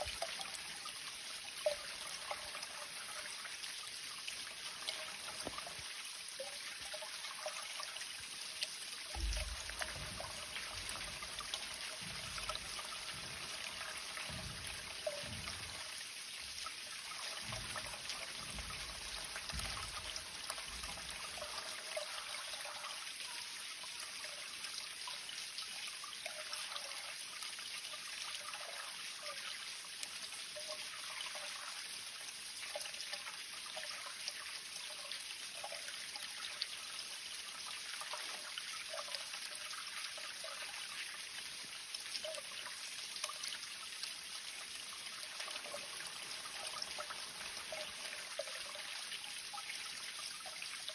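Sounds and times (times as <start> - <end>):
water trickling and splashing: 0.0 - 50.9.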